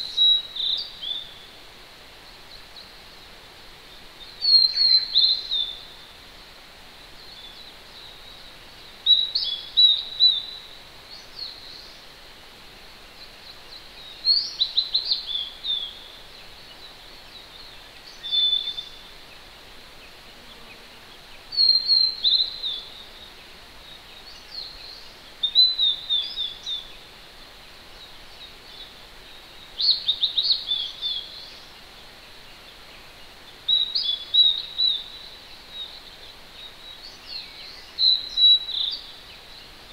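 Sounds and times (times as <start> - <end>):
distant mountain stream rushing: 0.0 - 39.9.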